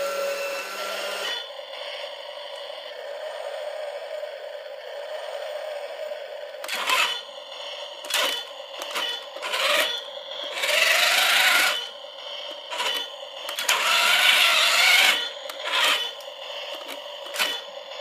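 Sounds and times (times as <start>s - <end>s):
toy gear motors whirring: 0.0s - 18.0s.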